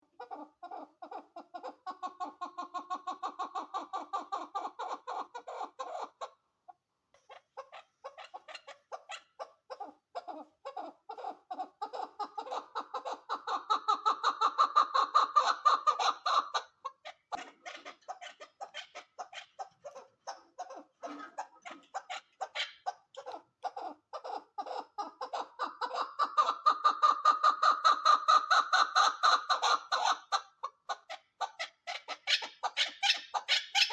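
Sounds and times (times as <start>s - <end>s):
partridge clucking calls: 0.1s - 6.4s, 7.2s - 33.9s.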